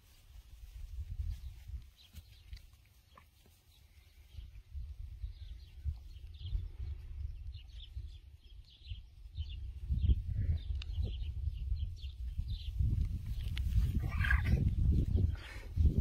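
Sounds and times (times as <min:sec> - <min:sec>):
small birds chirping: 0:00.0 - 0:16.0
wind rumble on microphone: 0:00.3 - 0:02.0, 0:04.2 - 0:16.0.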